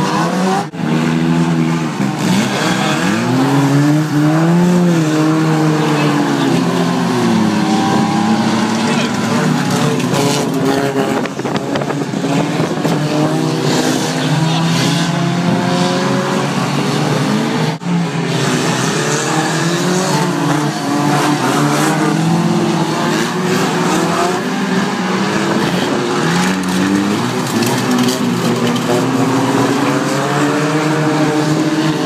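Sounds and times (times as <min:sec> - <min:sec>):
racing car engines: 0:00.0 - 0:32.0.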